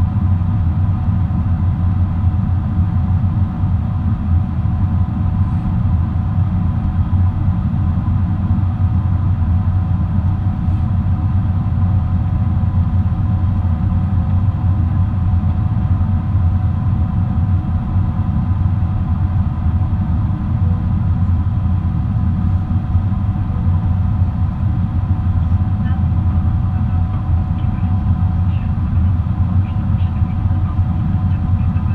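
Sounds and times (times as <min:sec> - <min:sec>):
airplane cabin rumble: 0:00.0 - 0:31.9
faint engine tones: 0:00.0 - 0:31.9.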